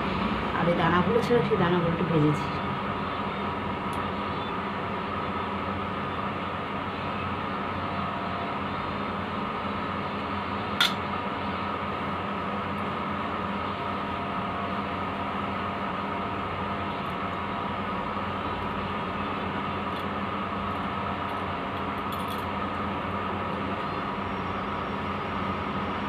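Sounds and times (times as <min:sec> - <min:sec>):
mechanical hum with hiss: 0:00.0 - 0:26.0.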